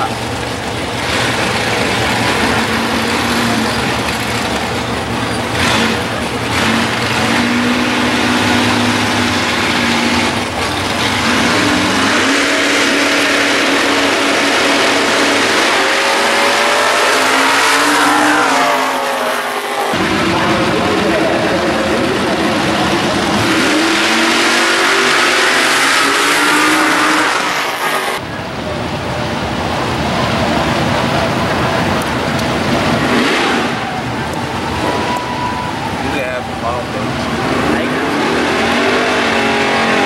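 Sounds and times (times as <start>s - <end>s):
race car engines at full throttle: 0.0s - 40.0s
race car engines idling and revving: 0.0s - 40.0s.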